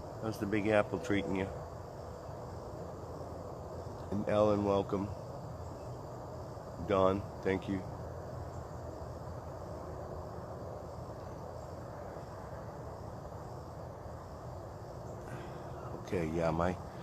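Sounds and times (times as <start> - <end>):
faint high insect drone: 0.0 - 17.0.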